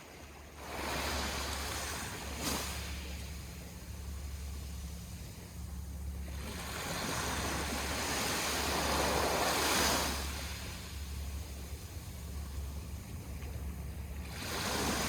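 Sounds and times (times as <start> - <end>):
sea waves washing in: 0.0 - 15.0
steady low hum: 0.0 - 15.0.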